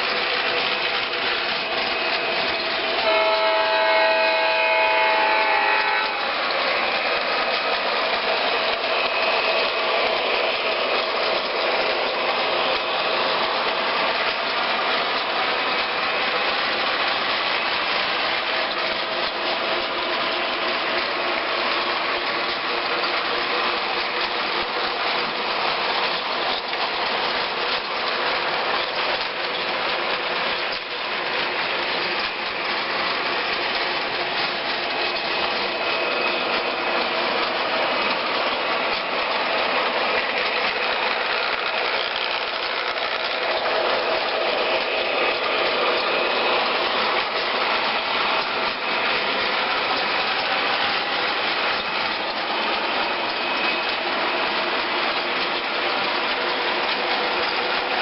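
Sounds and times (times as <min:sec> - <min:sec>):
train running: 0:00.0 - 0:58.0.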